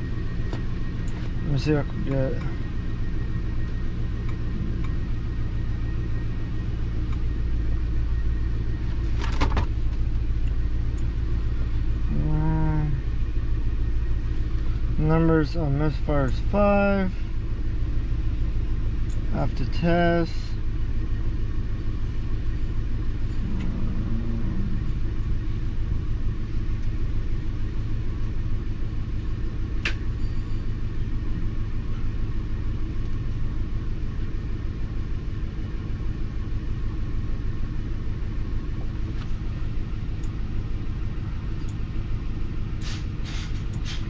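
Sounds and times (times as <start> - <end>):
misfiring car engine idling: 0.0 - 44.0.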